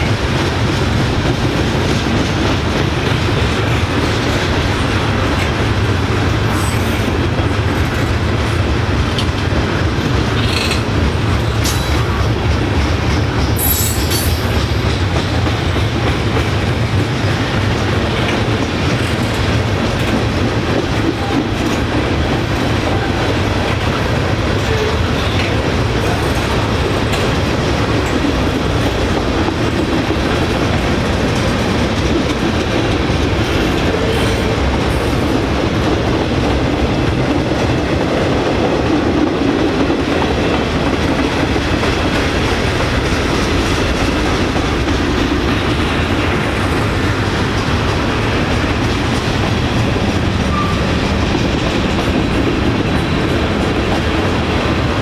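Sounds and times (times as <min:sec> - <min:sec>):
train wheels running on rails: 0:00.0 - 0:55.0.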